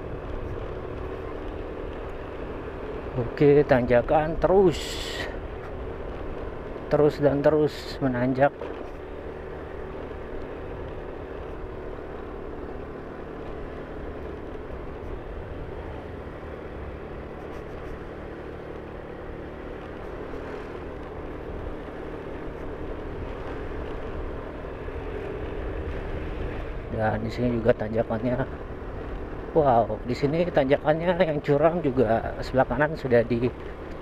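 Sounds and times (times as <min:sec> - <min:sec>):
road noise hum: 0:00.0 - 0:34.0
vehicle engine climbing uphill: 0:00.0 - 0:34.0.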